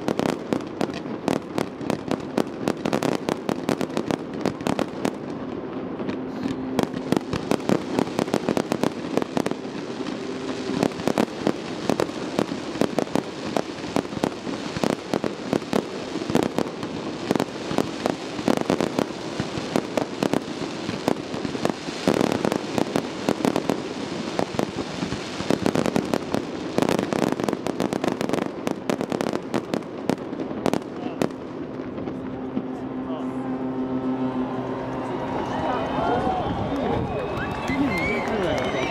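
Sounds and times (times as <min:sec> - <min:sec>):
fireworks bangs and crackles: 0:00.0 - 0:34.7, 0:35.4 - 0:38.9.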